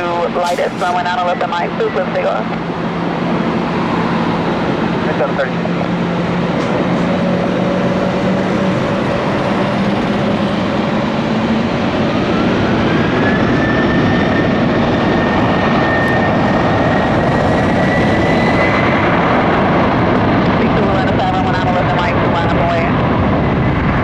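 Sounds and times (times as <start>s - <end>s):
high engine whine: 0.0s - 24.0s
jet engines at takeoff thrust: 0.0s - 24.0s.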